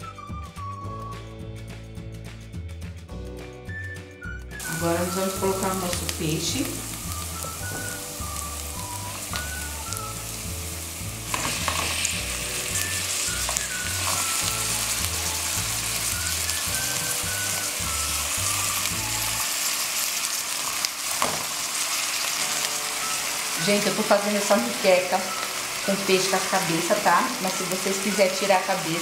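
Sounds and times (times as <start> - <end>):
soft background music: 0.0 - 29.0
fish sizzling in hot oil: 4.6 - 29.0.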